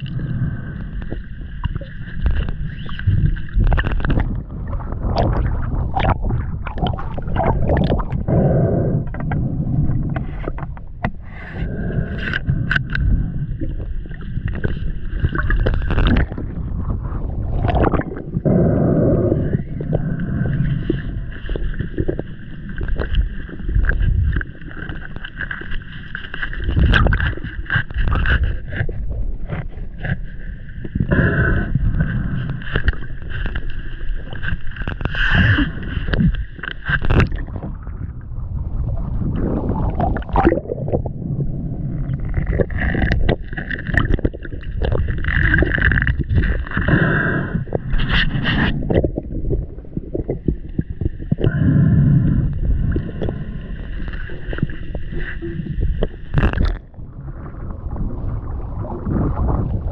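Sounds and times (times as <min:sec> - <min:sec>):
water sloshing and bubbling: 0:00.0 - 0:59.9.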